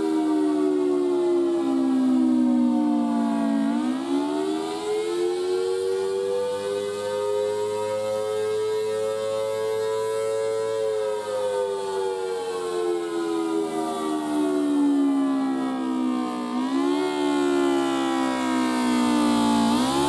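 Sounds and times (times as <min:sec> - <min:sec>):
wailing siren: 0:00.0 - 0:20.0.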